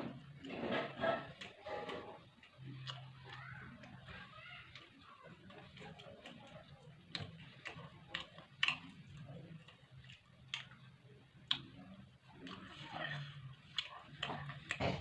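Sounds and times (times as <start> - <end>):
person chewing: 0.0 - 4.1, 4.7 - 15.0.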